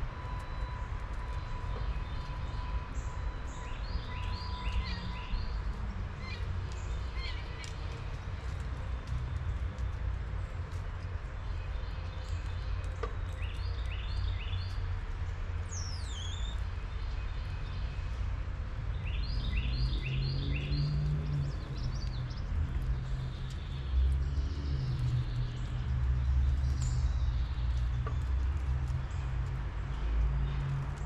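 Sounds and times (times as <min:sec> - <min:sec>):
songbirds calling: 0:00.3 - 0:10.0, 0:10.6 - 0:14.9, 0:15.7 - 0:18.2, 0:18.9 - 0:31.0.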